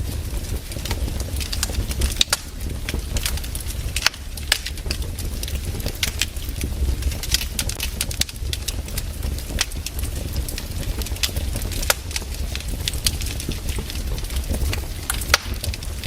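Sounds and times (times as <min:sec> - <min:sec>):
firewood crackling: 0:00.0 - 0:16.0.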